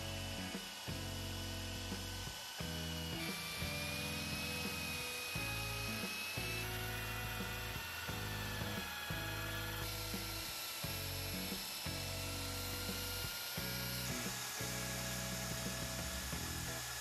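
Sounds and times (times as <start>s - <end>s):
wire wheel brush whining: 0.0s - 17.0s.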